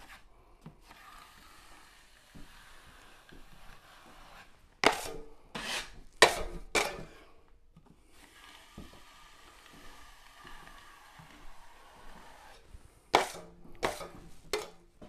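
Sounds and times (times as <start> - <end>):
knife scraping along wall: 0.0 - 7.4, 8.0 - 15.0
taping knife scraping metal pan: 0.0 - 7.4, 8.2 - 14.8.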